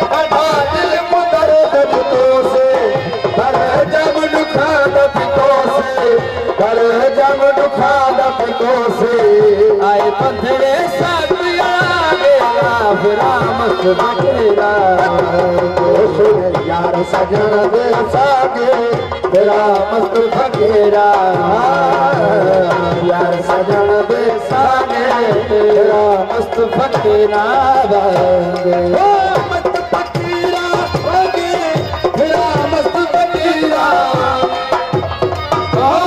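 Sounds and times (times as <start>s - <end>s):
hand drum rhythm: 0.0s - 36.0s.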